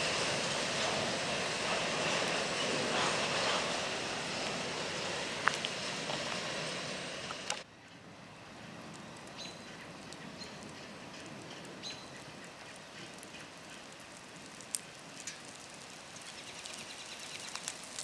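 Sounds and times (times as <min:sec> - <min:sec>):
steady rushing outdoor noise: 0:00.0 - 0:18.0.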